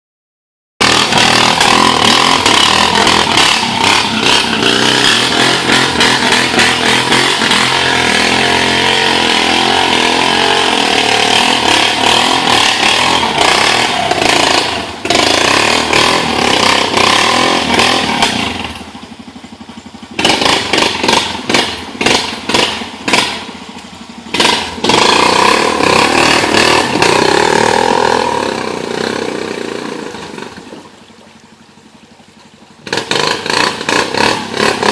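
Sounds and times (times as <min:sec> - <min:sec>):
atv engine revving: 0:00.8 - 0:34.9.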